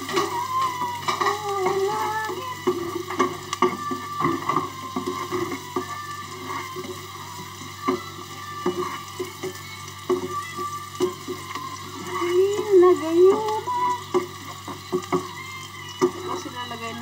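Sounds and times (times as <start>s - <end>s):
spatula clacking against pan: 0.0s - 16.8s
oil sizzling: 0.0s - 17.0s
spatula scraping in wok: 0.0s - 17.0s.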